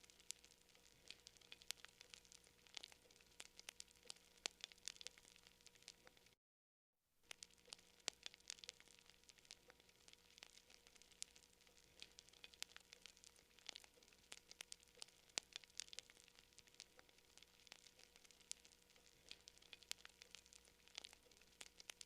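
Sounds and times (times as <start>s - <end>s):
campfire crackling: 0.0s - 6.4s, 7.3s - 22.0s.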